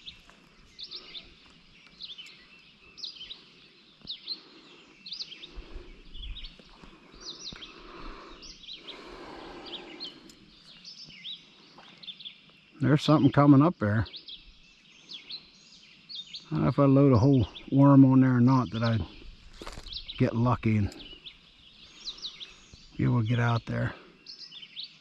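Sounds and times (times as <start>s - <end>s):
small birds chirping: 0.0s - 25.0s
soft outdoor hiss: 0.0s - 25.0s.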